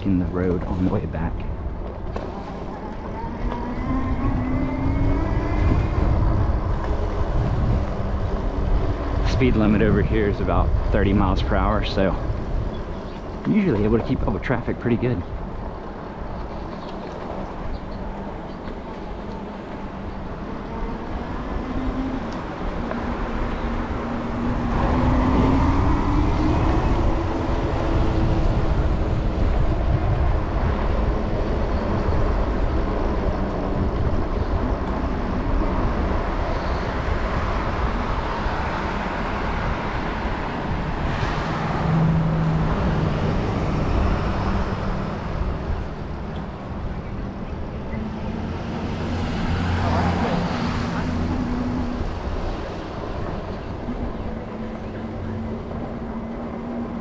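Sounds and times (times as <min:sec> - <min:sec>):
electric bike road noise: 0:00.0 - 0:57.0
road traffic: 0:00.0 - 0:57.0
wind rushing over microphone: 0:00.0 - 0:57.0.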